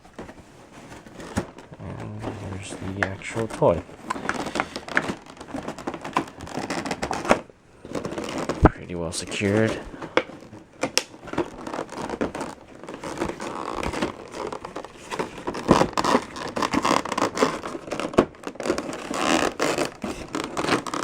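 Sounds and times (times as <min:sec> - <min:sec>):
plastic packaging crinkling: 0:00.0 - 0:21.0
plastic clicks: 0:01.2 - 0:21.0.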